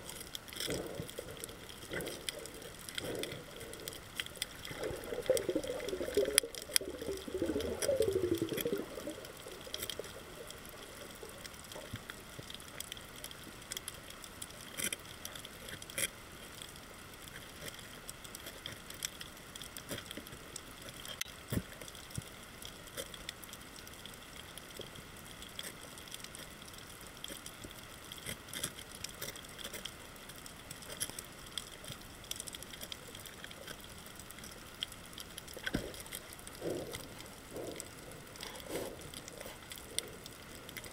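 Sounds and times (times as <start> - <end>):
gurgling water: 0.0 - 40.9
underwater crackle of clicks: 0.0 - 40.9.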